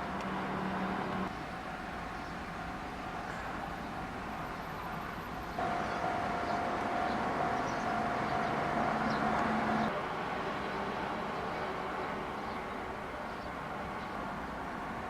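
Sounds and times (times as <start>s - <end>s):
rail noise: 0.0s - 15.0s.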